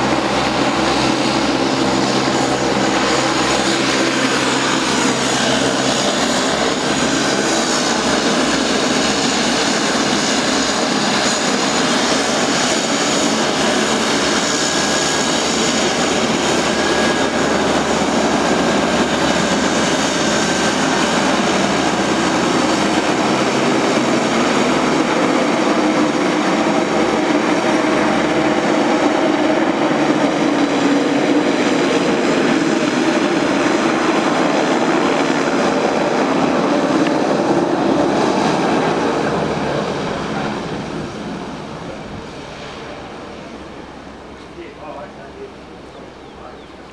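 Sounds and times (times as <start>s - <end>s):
propeller noise: 0.0s - 46.9s
turbine whine: 0.0s - 46.9s
turboprop engines running: 0.0s - 46.9s.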